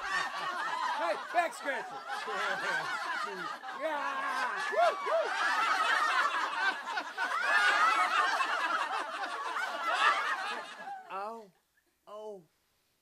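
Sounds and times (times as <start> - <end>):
group of people laughing: 0.0 - 11.4.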